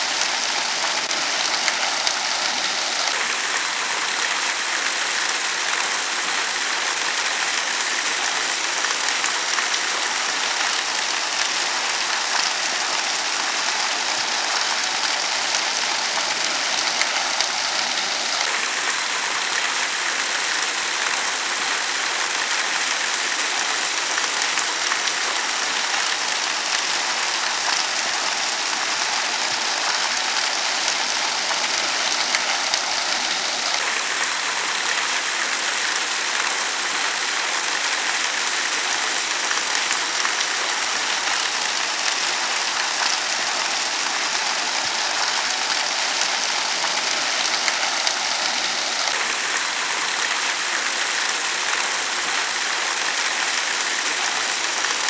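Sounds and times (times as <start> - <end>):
waterfall splashing: 0.0 - 55.0.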